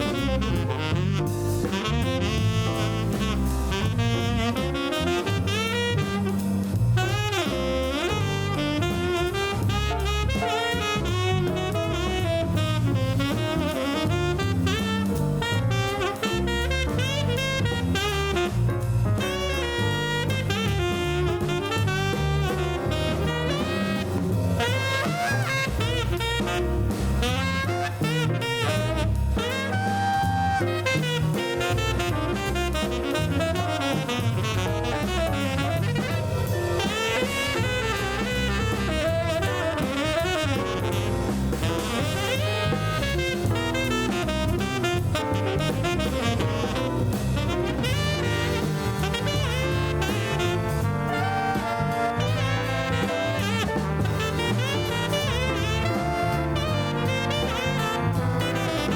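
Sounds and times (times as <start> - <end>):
upbeat jazz music: 0.0 - 58.9.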